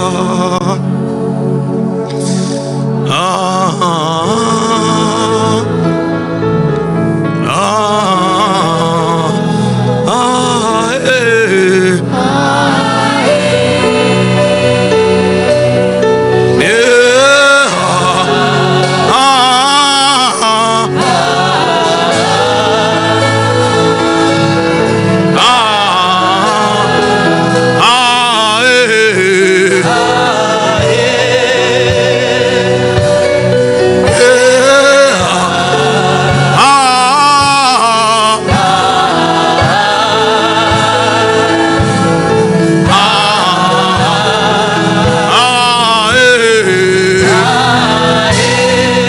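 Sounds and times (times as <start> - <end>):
voices singing gospel: 0.0 - 0.9, 2.2 - 49.0
keyboard pad chords: 0.0 - 49.0.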